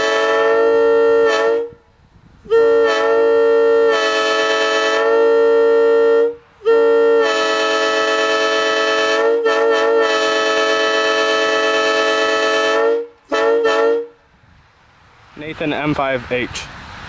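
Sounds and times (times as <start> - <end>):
locomotive air horn chord: 0.0 - 14.2.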